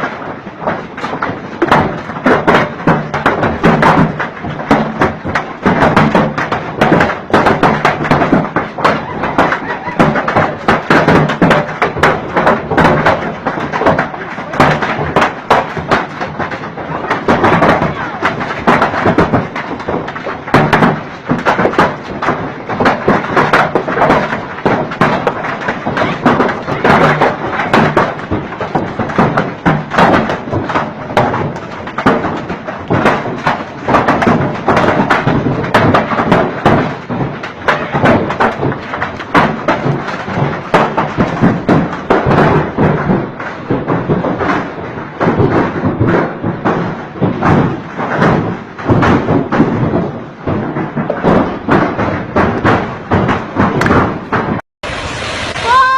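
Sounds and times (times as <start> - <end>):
rapid clattering thuds and knocks: 0.0 - 54.6.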